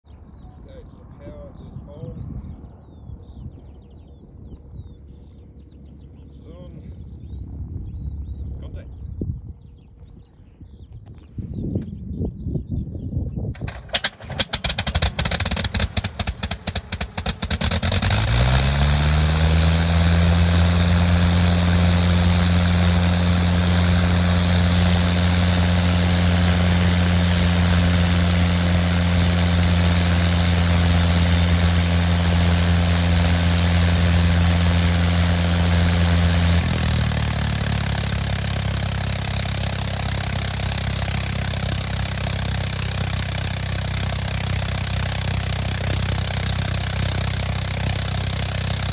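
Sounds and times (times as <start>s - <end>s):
rotary aircraft engine running: 2.2s - 12.2s, 13.5s - 48.9s.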